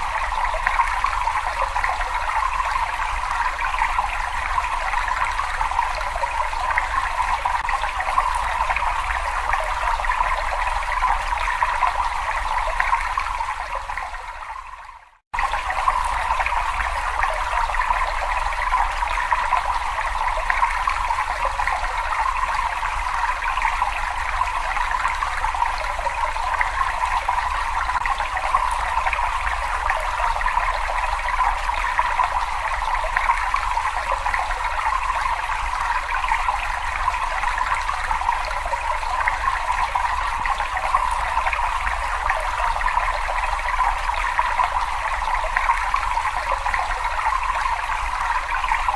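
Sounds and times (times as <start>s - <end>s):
water flowing in a cave: 0.0s - 48.9s.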